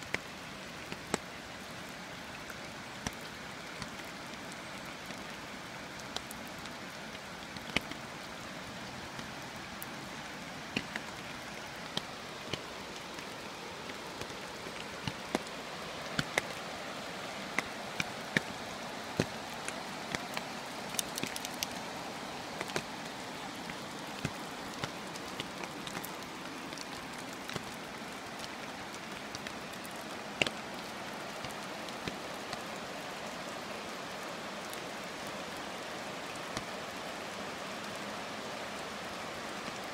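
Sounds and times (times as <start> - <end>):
raindrops tapping close by: 0.0 - 39.9
steady rain falling: 0.0 - 39.9.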